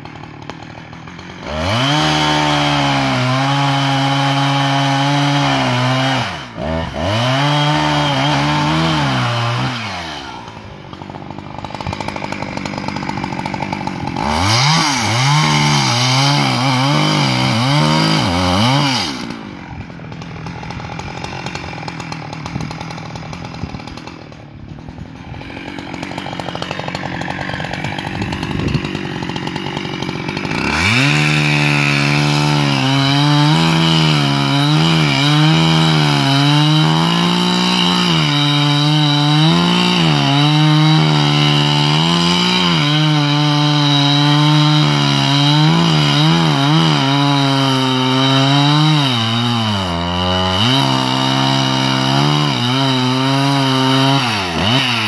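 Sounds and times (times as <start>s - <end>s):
chainsaw cutting and revving: 0.0s - 55.0s.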